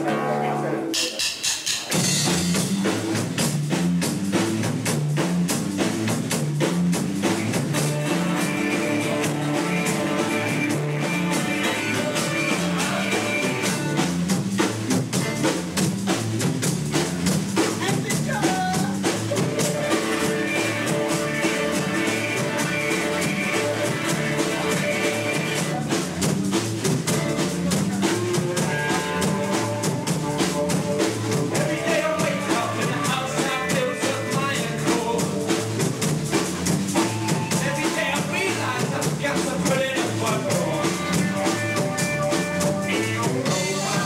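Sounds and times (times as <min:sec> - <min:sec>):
rock band playing: 0:00.0 - 0:44.0
drum beat: 0:01.0 - 0:44.0.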